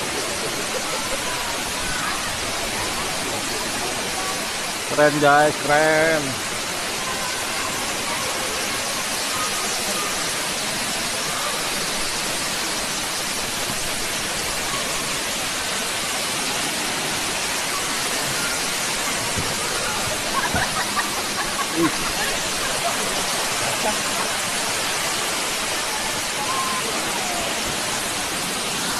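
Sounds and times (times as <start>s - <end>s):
waterfall rushing and splashing: 0.0s - 28.9s.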